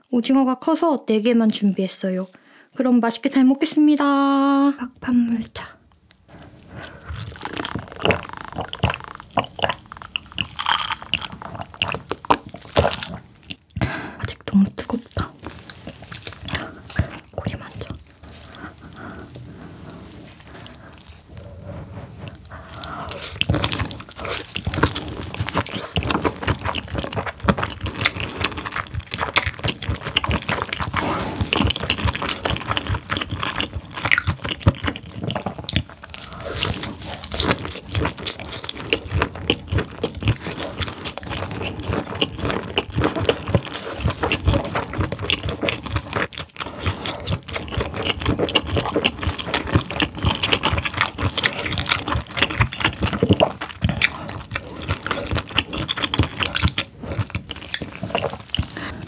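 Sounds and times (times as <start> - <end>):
biting and wet chewing: 5.9 - 59.0
sticky mouth clicks and smacks: 7.1 - 19.7, 22.2 - 59.0.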